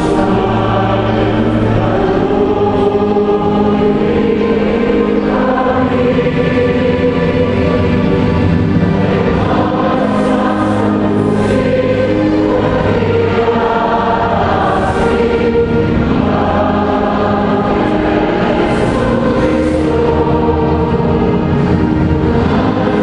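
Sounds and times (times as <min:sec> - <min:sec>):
choir singing a hymn: 0:00.0 - 0:23.0.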